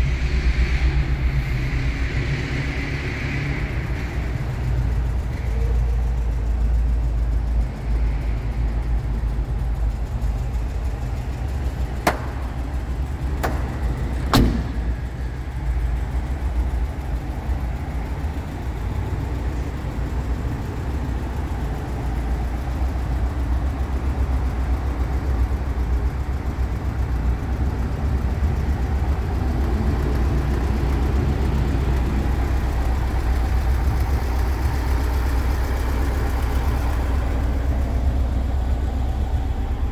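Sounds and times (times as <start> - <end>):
van engine idling: 0.0 - 39.9.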